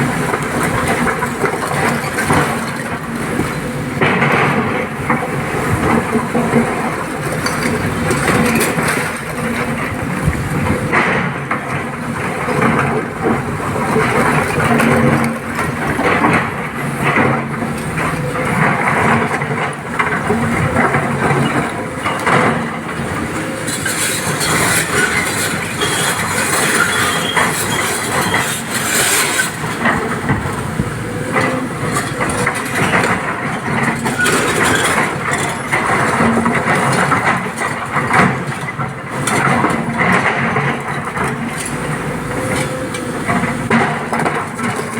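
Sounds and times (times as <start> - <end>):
diesel engine under load: 0.0 - 44.9.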